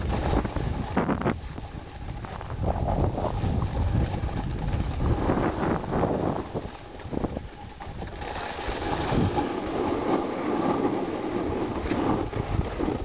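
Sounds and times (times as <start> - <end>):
sled scraping over crusty snow: 0.0 - 13.0
wind on microphone: 0.0 - 13.0.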